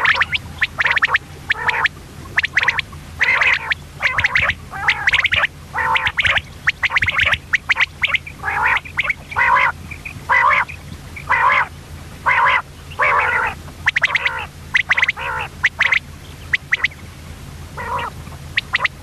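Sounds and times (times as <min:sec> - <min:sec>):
faint steady hum: 0:00.0 - 0:19.0
quail calling: 0:00.0 - 0:19.0.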